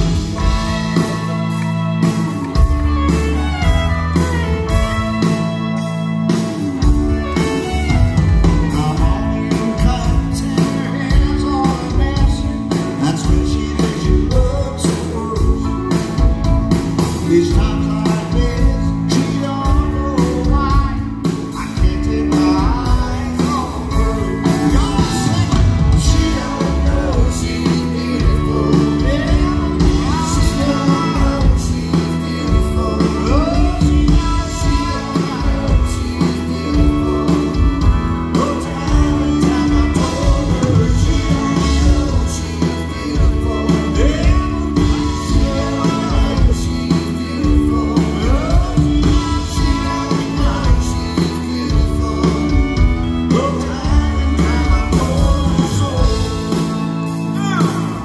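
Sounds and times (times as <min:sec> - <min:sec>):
live country band playing: 0:00.0 - 0:58.0
lead vocals singing: 0:06.9 - 0:16.3, 0:17.0 - 0:58.0.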